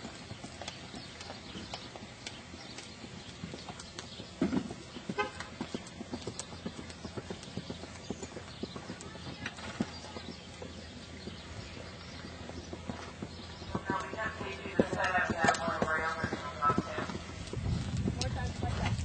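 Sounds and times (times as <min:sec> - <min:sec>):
horse hoofbeats on dirt: 0:00.0 - 0:19.0.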